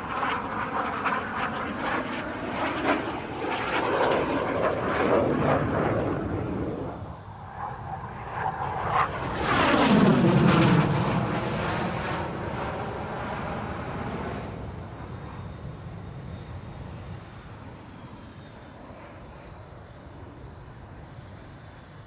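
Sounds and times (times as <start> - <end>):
jet engine flying overhead: 0.0 - 22.0.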